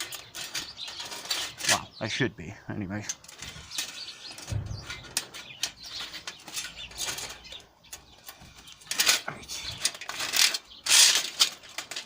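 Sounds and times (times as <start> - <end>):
thin metal clicking and scraping: 0.0 - 1.9, 3.0 - 12.0
sparrows chirping: 0.0 - 12.0.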